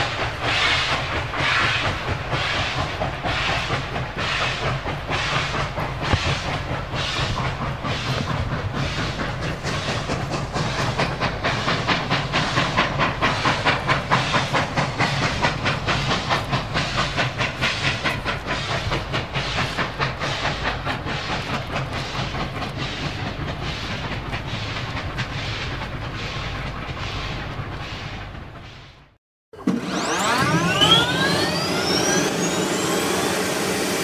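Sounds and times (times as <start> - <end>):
hiss of steam: 0.0 - 29.0
steam locomotive chuffing: 0.0 - 29.2.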